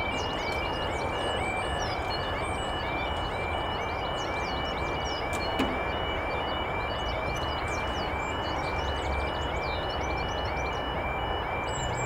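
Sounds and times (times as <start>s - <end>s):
birds chirping: 0.0s - 12.0s
two-tone crossing alarm: 0.0s - 12.0s.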